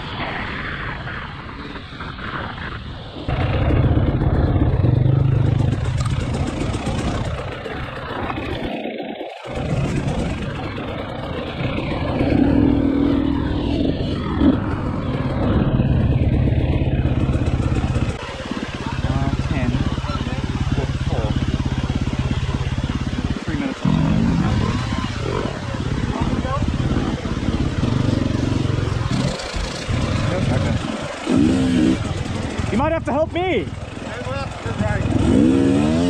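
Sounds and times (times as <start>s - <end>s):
dirt bike engine revving: 3.3s - 8.7s, 9.5s - 36.0s.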